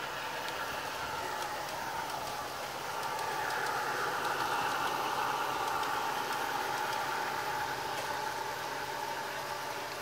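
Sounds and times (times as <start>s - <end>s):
model locomotive running with whine: 0.0s - 10.0s.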